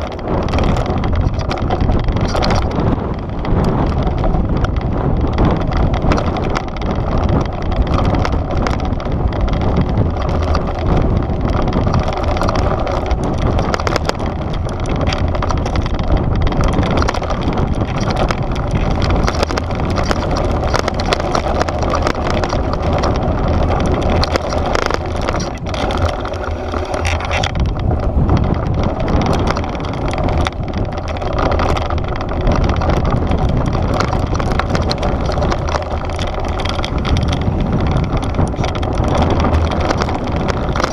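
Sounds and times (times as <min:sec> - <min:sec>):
bike knocks and rattles: 0:00.0 - 0:40.9
low rumble: 0:00.0 - 0:40.9
tyres crunching over gravel: 0:00.0 - 0:40.9.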